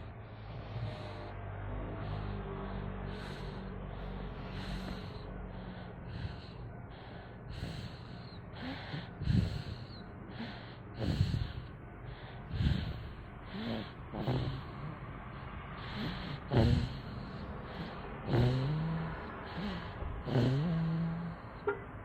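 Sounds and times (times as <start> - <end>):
child snoring: 0.0 - 6.6, 7.5 - 11.7, 12.5 - 21.6
soft breathing: 0.0 - 21.6.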